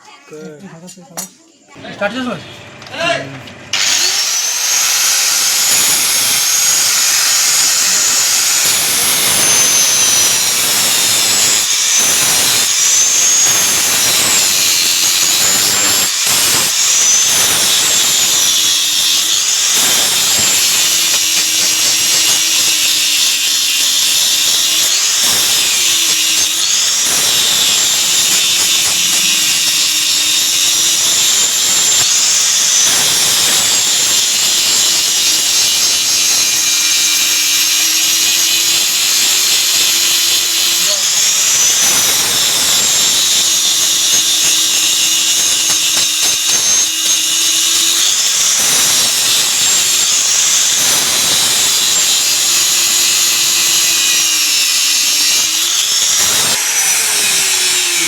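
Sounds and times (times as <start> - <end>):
electric grinder grinding steel: 1.8 - 58.0.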